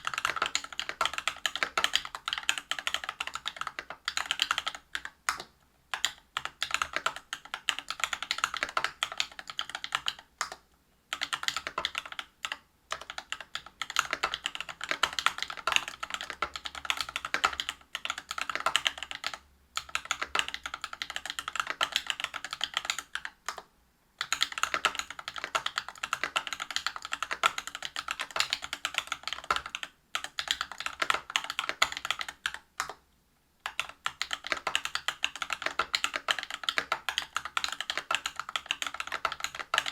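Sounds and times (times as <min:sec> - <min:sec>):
mechanical keyboard typing: 0:00.0 - 0:33.0, 0:33.6 - 0:39.9.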